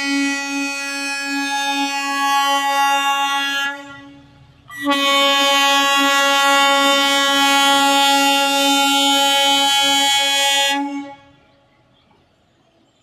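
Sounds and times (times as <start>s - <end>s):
machine horn blast: 0.0s - 11.4s.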